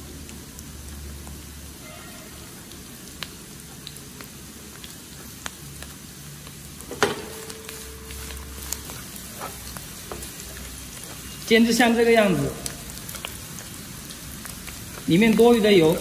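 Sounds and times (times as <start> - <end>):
bamboo shoots sizzling in oil: 0.0 - 16.0.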